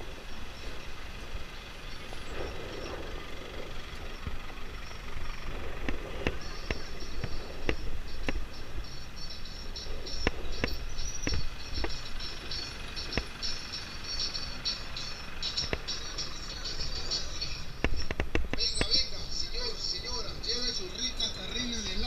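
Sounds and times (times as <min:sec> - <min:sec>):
high pulsing chatter: 0:00.0 - 0:22.0
motorbike engine rumble: 0:00.0 - 0:22.0
sharp clicks and rattles: 0:03.6 - 0:22.0.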